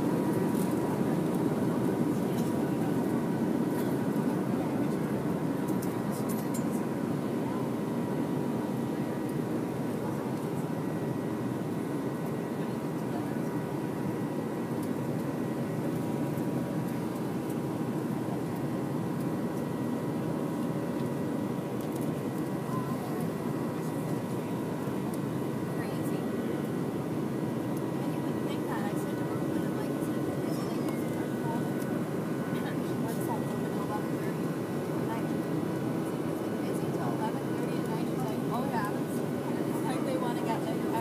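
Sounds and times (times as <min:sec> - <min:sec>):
faint high engine whine: 0:00.0 - 0:41.0
jet engine noise in cabin: 0:00.0 - 0:41.0.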